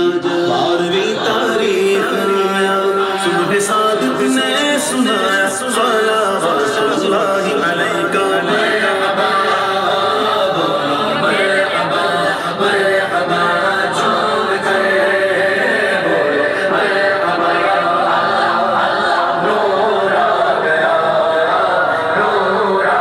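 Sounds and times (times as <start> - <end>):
voices singing together: 0.0 - 23.0.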